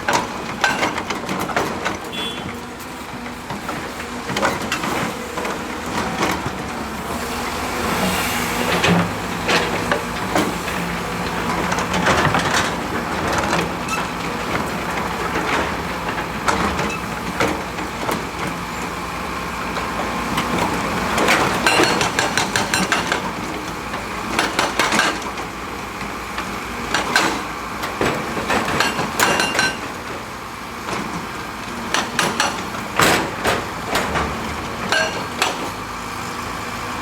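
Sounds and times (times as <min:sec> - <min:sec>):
clanks and knocks: 0:00.0 - 0:06.8, 0:08.7 - 0:18.6, 0:19.7 - 0:25.5, 0:26.9 - 0:35.8
diesel engine running: 0:00.0 - 0:37.0.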